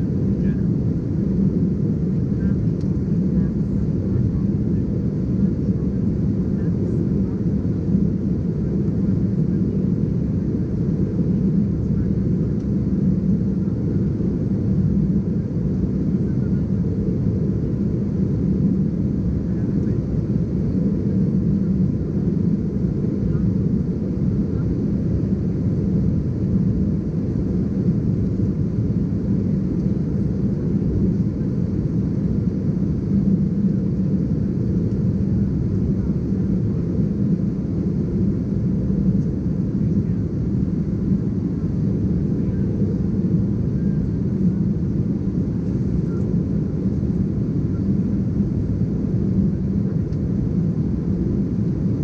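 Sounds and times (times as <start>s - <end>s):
airliner cabin drone: 0.0s - 52.0s.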